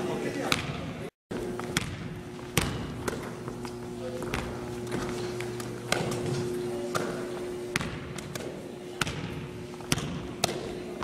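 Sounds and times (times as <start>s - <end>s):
steady hum: 0.0s - 11.0s
basketball bouncing on wooden floor: 1.4s - 10.8s.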